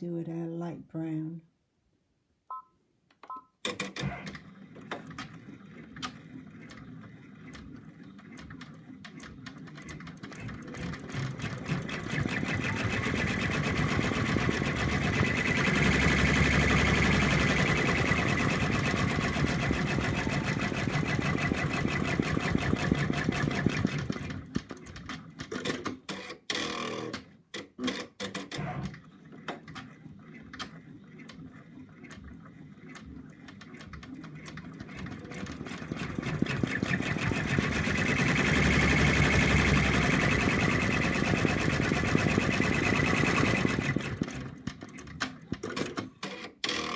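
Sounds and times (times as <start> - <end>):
embroidery machine stitching: 3.6 - 46.9
machine clicks and whirs: 3.6 - 46.9.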